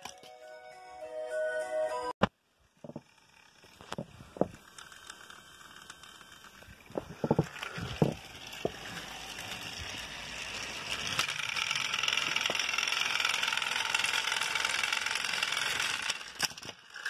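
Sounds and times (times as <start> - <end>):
toy train motors whirring: 2.9 - 17.0.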